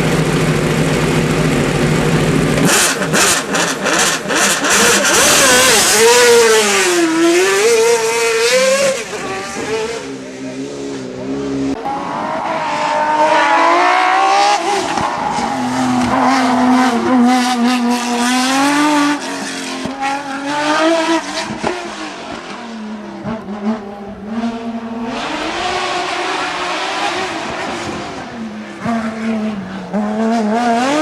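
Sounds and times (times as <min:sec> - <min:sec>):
race car engine at high revs: 0:00.0 - 0:31.0.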